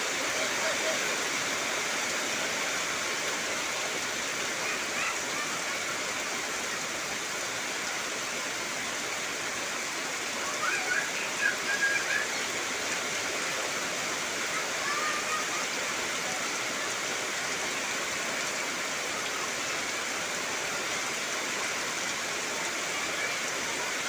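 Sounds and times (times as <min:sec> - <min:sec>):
heavy rain on foliage: 0:00.0 - 0:24.0.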